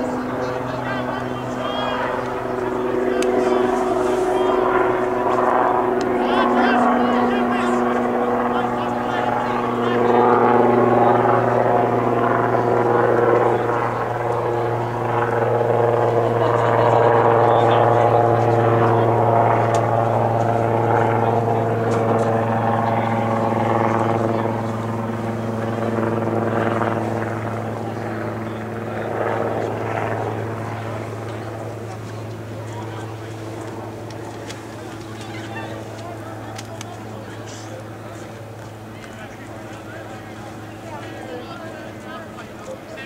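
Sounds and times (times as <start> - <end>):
engine drone: 0.0 - 43.0.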